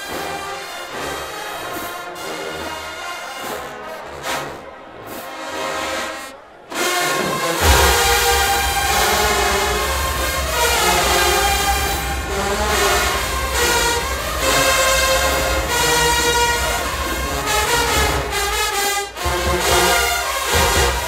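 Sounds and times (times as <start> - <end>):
heavy low brass: 0.0 - 21.0
marching band brass playing: 0.0 - 21.0.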